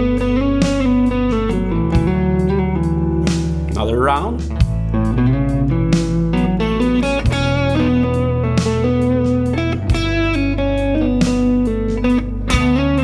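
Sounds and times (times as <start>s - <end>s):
backing track with bass: 0.0s - 13.0s
electric guitar solo: 0.0s - 13.0s.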